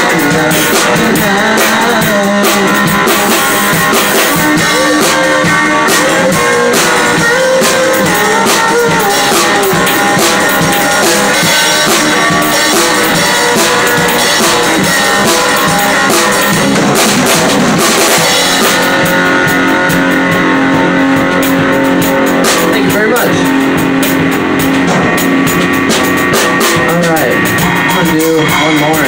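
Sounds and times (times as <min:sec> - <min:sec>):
drums and cymbals struck hard: 0:00.0 - 0:29.0
live band playing loud music: 0:00.0 - 0:29.0.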